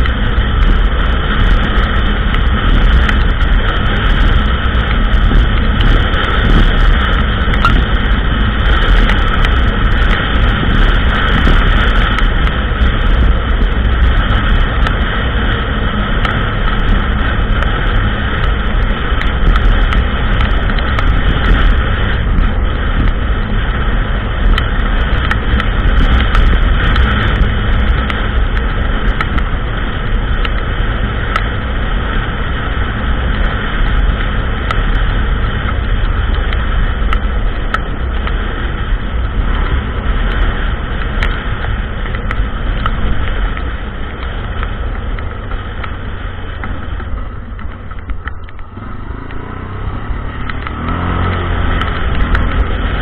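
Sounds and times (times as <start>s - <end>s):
small clicks and rattles: 0.0s - 15.0s, 16.2s - 23.2s, 24.4s - 31.7s, 33.0s - 53.0s
quad bike engine running: 0.0s - 53.0s.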